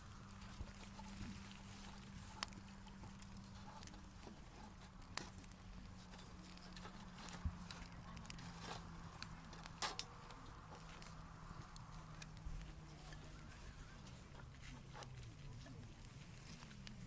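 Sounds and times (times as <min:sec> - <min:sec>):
faint clicks and knocks: 0:00.0 - 0:17.0
low steady hum: 0:00.0 - 0:17.0.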